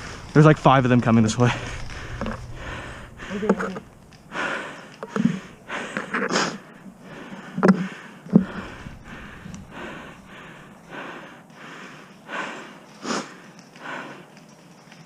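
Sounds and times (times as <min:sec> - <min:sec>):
person breathing hard: 0:01.5 - 0:14.4.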